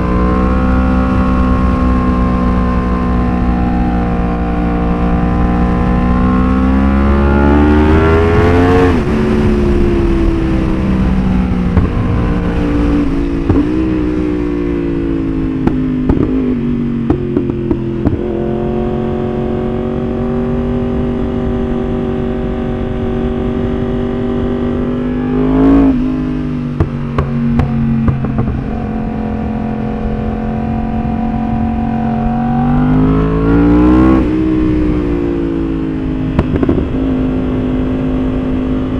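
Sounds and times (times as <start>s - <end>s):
exhaust pops: 0.0s - 19.5s, 25.6s - 38.9s
motorcycle engine accelerating: 0.0s - 38.9s.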